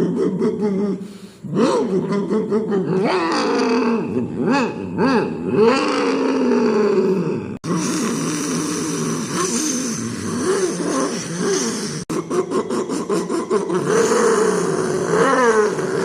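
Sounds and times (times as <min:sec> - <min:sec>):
person imitating motorbike engine: 0:00.0 - 0:16.0.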